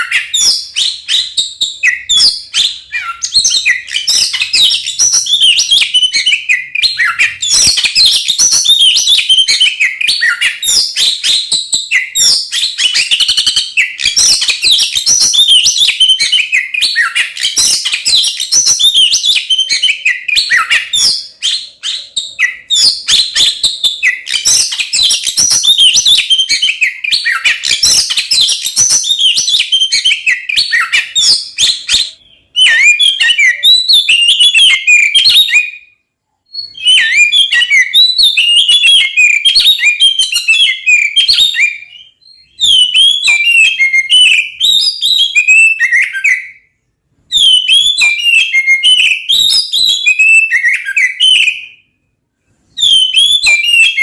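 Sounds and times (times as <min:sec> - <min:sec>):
songbird whistling and chattering: 0:00.0 - 0:35.9, 0:36.5 - 0:46.7, 0:47.3 - 0:51.8, 0:52.8 - 0:54.0.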